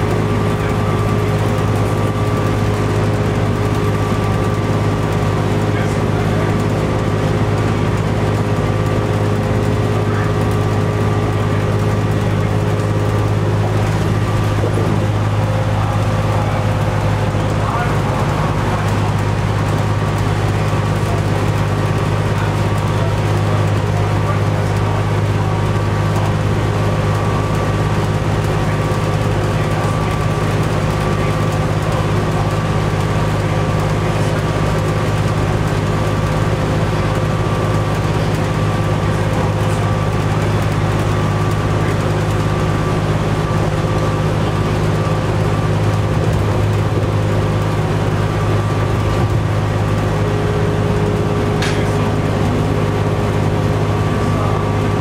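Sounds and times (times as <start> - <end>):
bus engine low drone: 0.0 - 55.0
road noise: 0.0 - 55.0.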